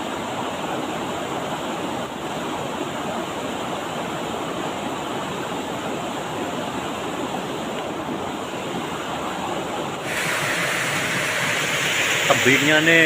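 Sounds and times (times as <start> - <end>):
river water flowing over rocks: 0.0 - 13.0.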